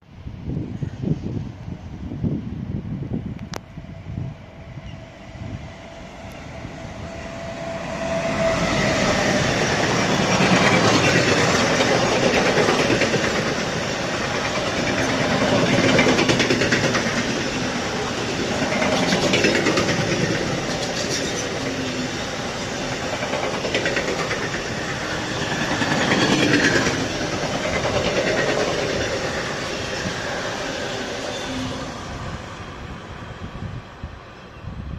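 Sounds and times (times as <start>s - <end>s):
electric train running past: 0.6s - 34.9s.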